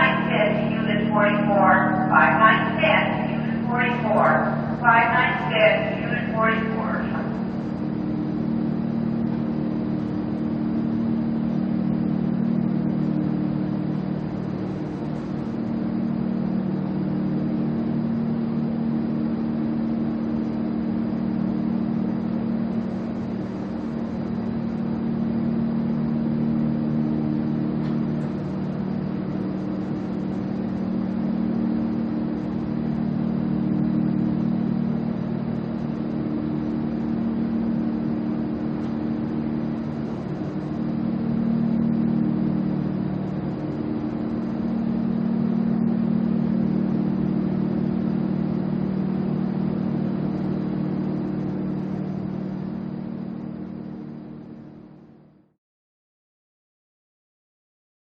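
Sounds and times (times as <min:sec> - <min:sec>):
low mechanical drone: 0:00.0 - 0:55.5.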